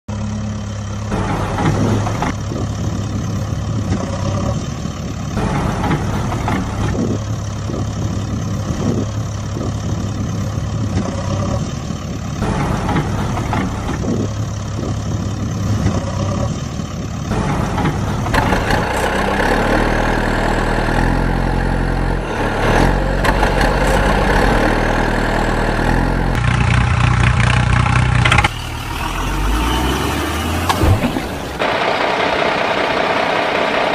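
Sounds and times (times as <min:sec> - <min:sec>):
heavy vehicle engine idling: 0:00.1 - 0:33.9.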